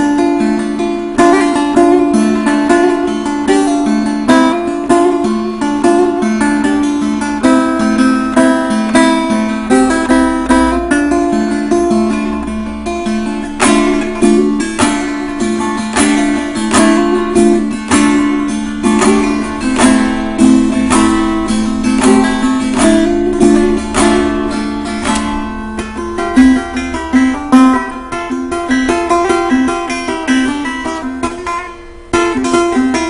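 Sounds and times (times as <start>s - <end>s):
open string drone: 0.0s - 33.0s
plucked lute notes: 0.0s - 33.0s.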